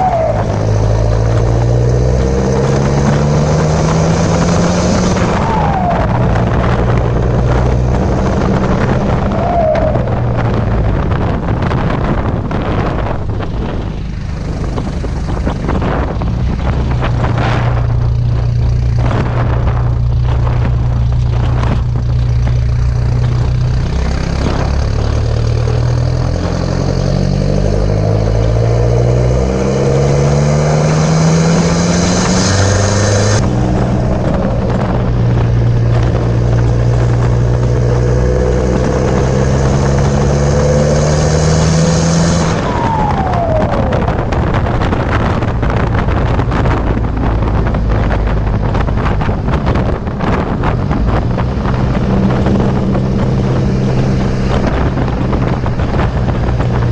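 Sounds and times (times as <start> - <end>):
car exhaust drone revving: 0.0 - 56.9.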